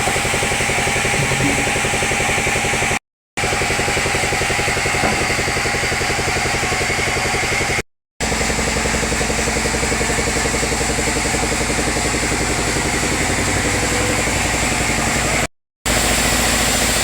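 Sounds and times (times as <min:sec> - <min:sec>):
engine running with a whine: 0:00.0 - 0:17.0.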